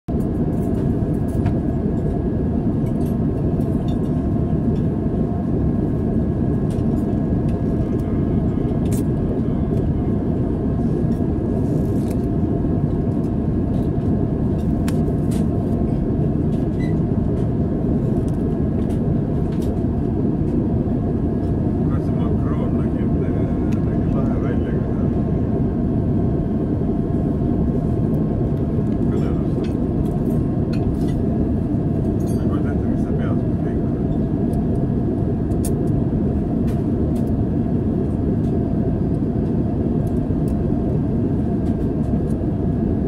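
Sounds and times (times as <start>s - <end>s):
roar of engines and airflow: 0.1s - 43.0s.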